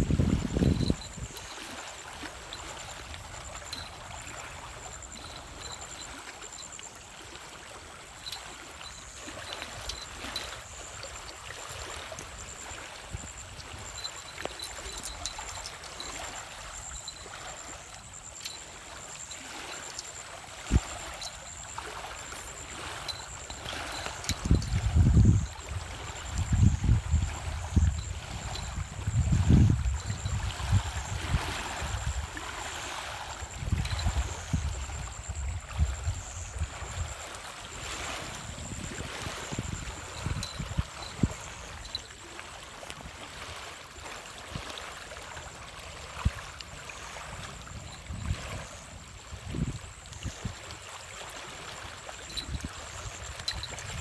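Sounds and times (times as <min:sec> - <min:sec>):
water lapping on stony shore: 0:00.0 - 0:54.0.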